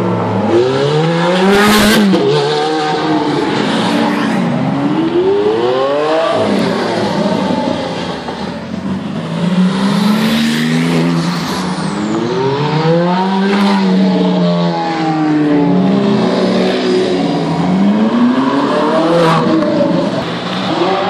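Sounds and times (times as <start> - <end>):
car engine revving: 0.2 - 21.0.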